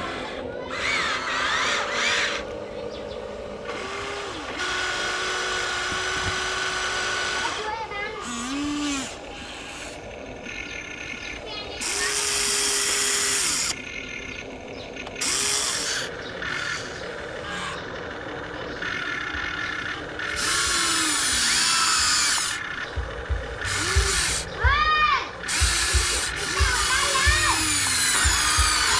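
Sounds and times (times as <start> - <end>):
small electric motors whirring: 0.0 - 28.9.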